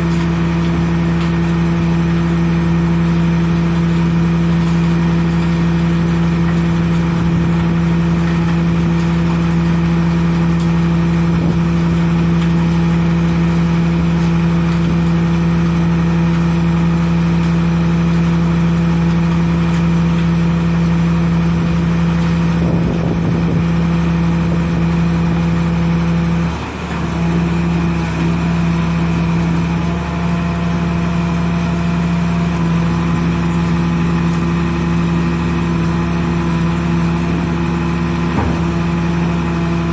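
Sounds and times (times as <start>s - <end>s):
baler mechanical hum: 0.0s - 39.9s.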